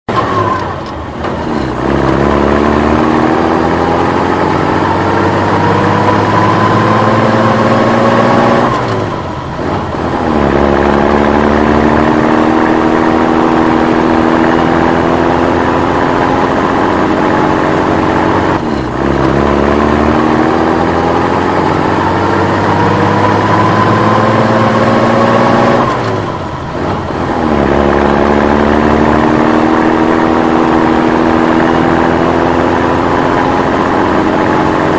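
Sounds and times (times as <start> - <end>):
truck engine accelerating through gears: 0.1 - 34.9.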